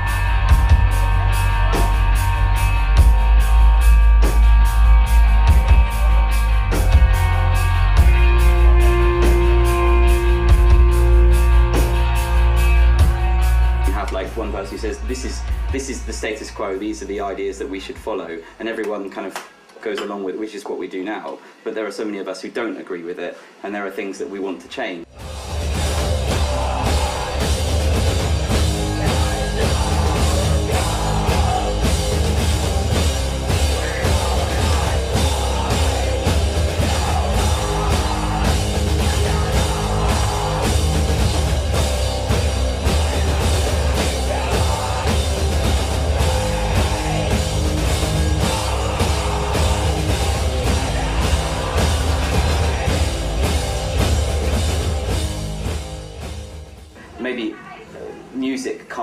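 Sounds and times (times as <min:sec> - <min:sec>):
punk rock band playing: 0:00.0 - 0:16.4, 0:25.1 - 0:57.0
driving drum beat: 0:00.0 - 0:16.5, 0:25.1 - 0:57.0.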